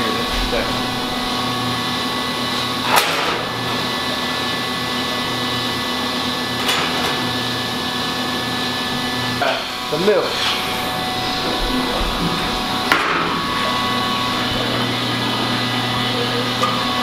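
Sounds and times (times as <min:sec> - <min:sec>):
mechanical equipment hum: 0:00.0 - 0:17.0.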